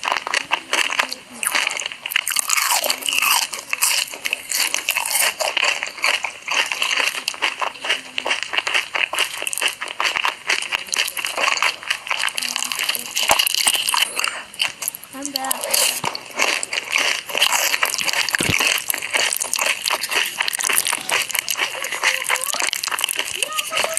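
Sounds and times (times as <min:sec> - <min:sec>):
crunchy food being chewed: 0:00.0 - 0:23.9.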